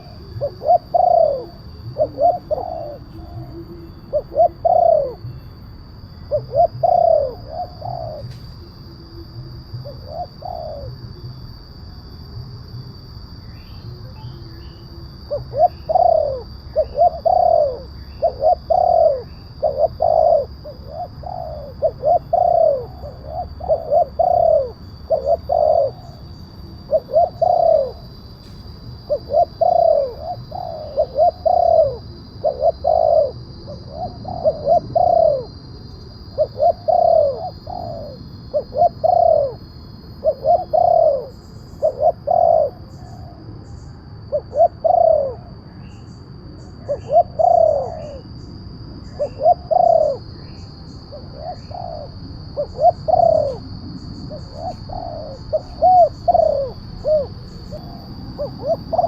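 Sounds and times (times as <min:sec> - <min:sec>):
dove cooing: 0:00.0 - 0:11.6, 0:13.2 - 0:59.0.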